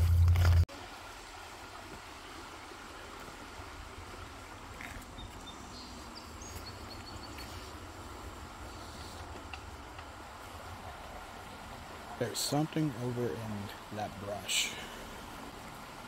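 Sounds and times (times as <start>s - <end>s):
creek rumbling: 0.0s - 16.0s.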